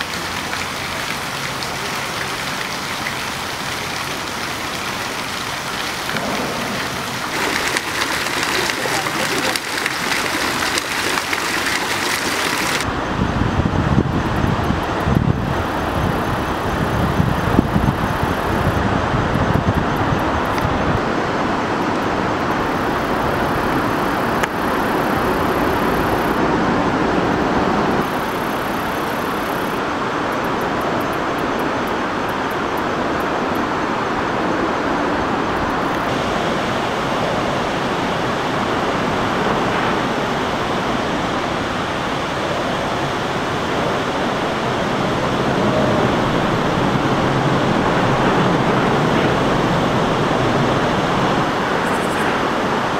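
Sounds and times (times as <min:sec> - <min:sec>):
water rushing over weir: 0:00.0 - 0:13.2, 0:20.3 - 0:52.9.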